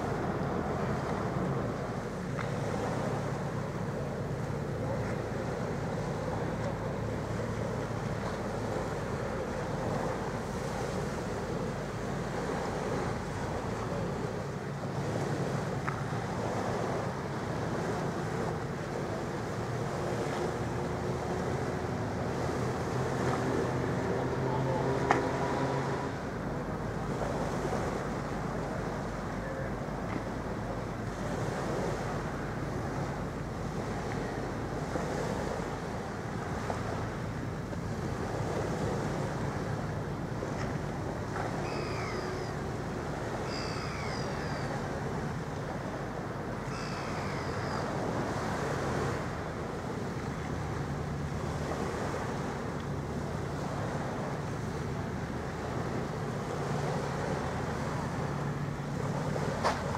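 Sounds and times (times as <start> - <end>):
low ferry engine drone: 0.0 - 59.9.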